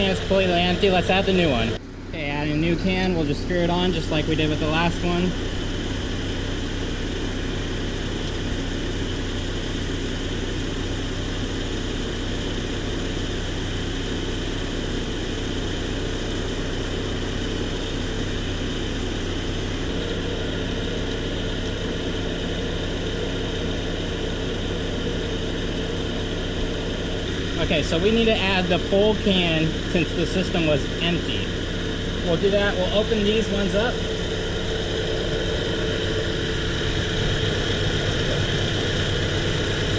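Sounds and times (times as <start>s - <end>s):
car ac system running: 0.0s - 39.9s
car engine idling: 0.0s - 39.9s.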